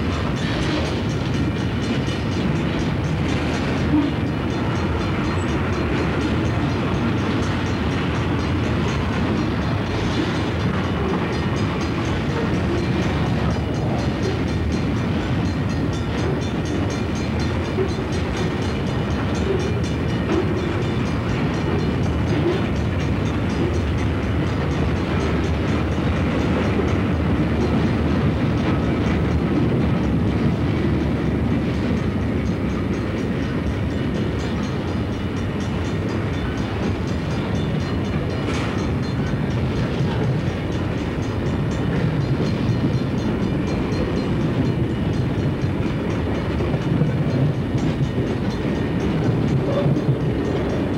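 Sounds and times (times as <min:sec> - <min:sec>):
clickety-clack over rail joints: 0:00.0 - 0:50.9
train wheels rumbling on rails: 0:00.0 - 0:50.9.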